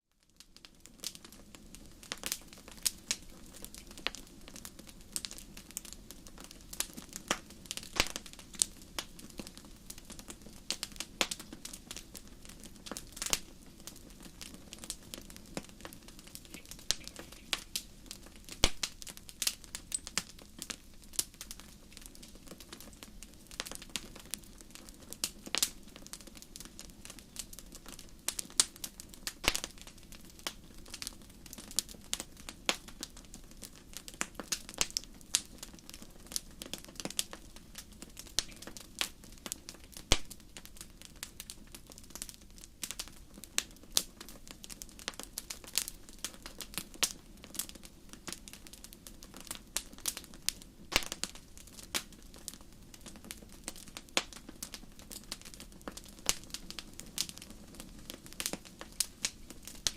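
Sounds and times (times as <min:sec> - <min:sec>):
campfire pops and snaps: 0:00.4 - 0:59.9.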